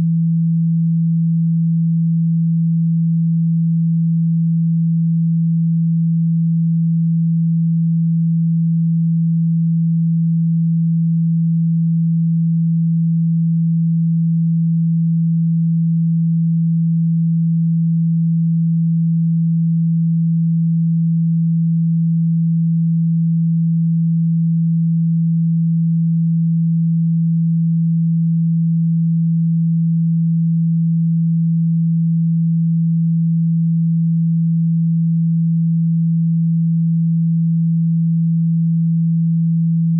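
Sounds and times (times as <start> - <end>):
low pure tone: 0.0 - 39.9.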